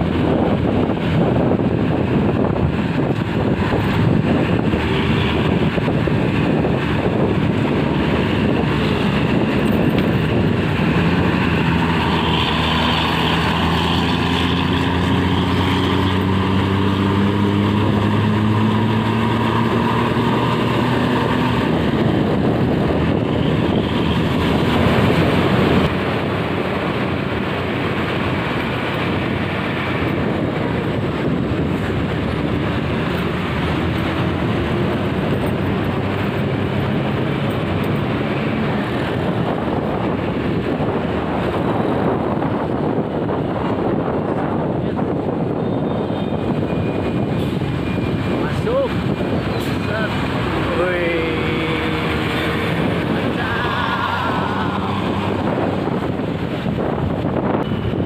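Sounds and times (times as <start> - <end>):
vehicle engine accelerating: 0.0 - 45.6, 46.3 - 58.0
road and wind noise: 0.0 - 58.0.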